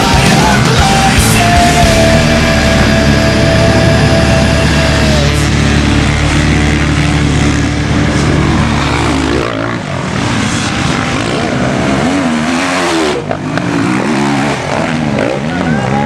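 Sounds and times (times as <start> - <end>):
motocross bikes revving: 0.0 - 16.0.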